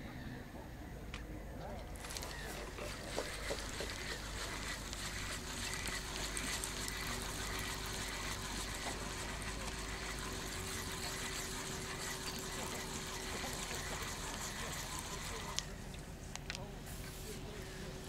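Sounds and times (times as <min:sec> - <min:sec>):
outdoor background hiss: 0:00.6 - 0:18.0.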